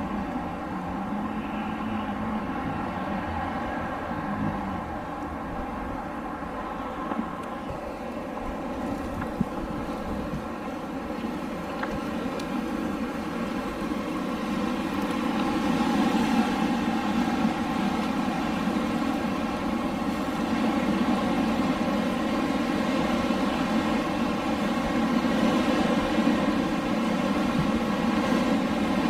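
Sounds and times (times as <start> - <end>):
faint hum: 0.0 - 29.0.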